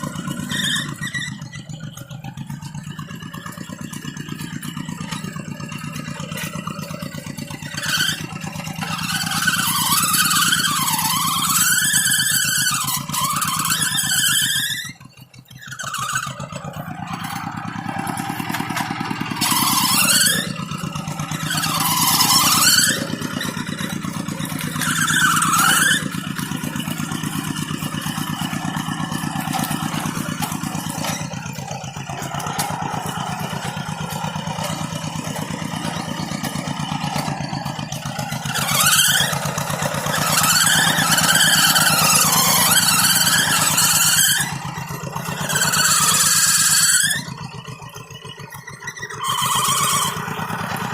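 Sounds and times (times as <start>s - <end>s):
high squeals: 0.0s - 50.9s
tractor engine running: 0.0s - 50.9s.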